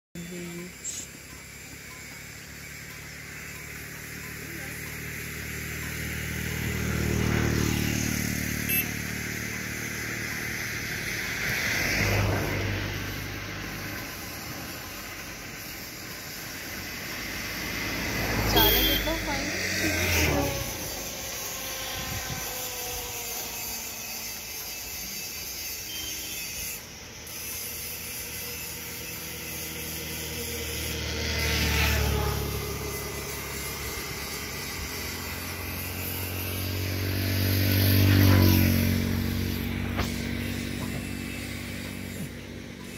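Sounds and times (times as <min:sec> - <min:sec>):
highway traffic hum: 0:00.2 - 0:42.9
vehicles passing by: 0:00.2 - 0:42.9.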